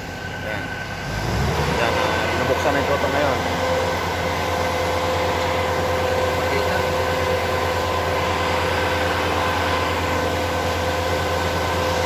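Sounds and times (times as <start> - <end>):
machinery humming and whining: 0.0 - 12.0.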